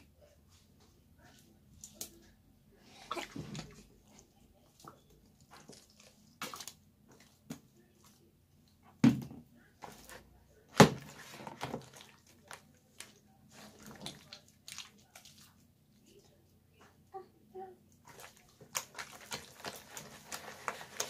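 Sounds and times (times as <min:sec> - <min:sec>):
hands squishing wet slime: 0:01.2 - 0:08.8, 0:09.8 - 0:16.2, 0:18.0 - 0:21.0.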